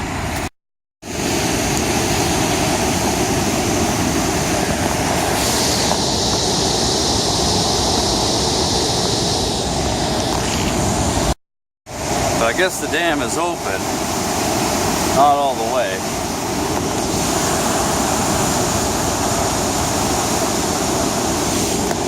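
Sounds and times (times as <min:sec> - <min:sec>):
floodwater rushing roar: 0:00.0 - 0:22.0.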